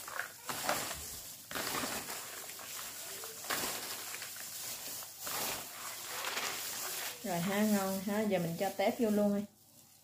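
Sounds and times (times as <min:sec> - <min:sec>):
salad rustling in a bowl: 0:00.0 - 0:10.0.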